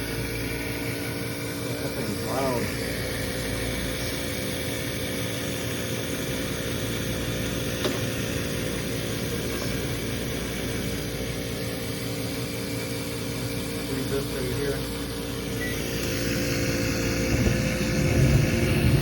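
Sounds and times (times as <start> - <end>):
gas furnace humming: 0.0 - 19.0.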